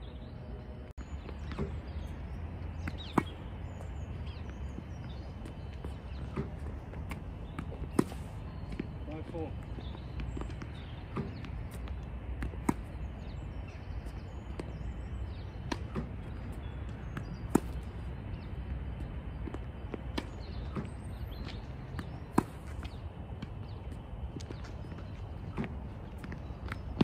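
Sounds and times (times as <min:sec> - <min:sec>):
birds chirping: 0:00.0 - 0:27.0
tennis racket striking balls: 0:01.4 - 0:02.0, 0:02.8 - 0:14.8, 0:15.5 - 0:27.0
balls bouncing: 0:02.7 - 0:27.0.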